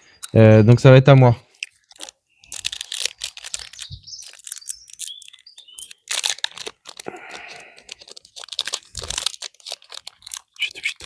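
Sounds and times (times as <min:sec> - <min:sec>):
foil wrapper crinkling: 0:01.5 - 0:11.0
foil wrapper tearing: 0:01.5 - 0:11.0.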